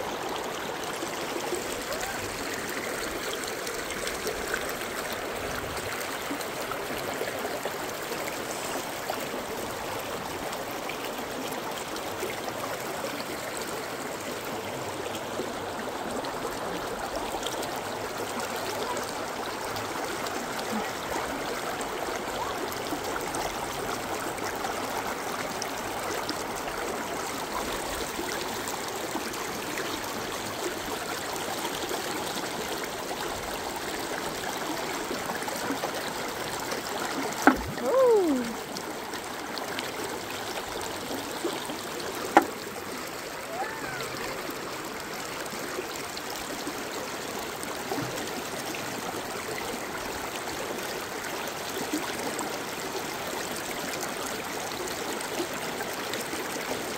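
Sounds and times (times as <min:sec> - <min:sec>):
creek water flowing over rocks: 0:00.0 - 0:56.9.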